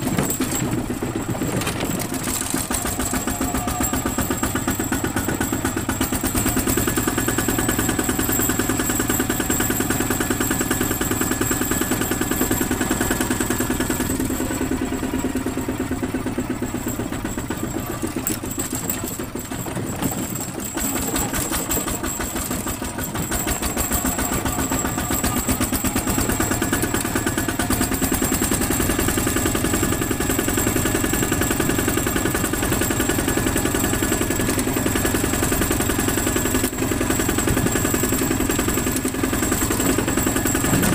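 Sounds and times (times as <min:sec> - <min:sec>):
diesel tractor engine putter: 0:00.0 - 0:40.9.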